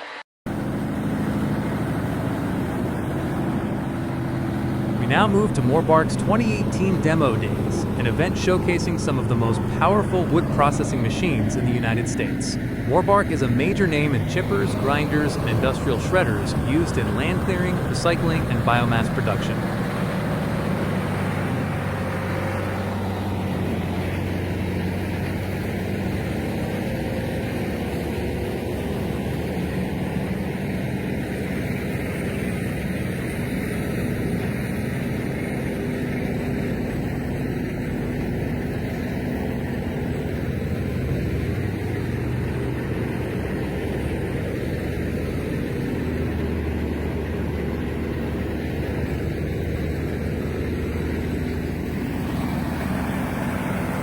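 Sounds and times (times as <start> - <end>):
diesel engine running: 0.5 - 54.0.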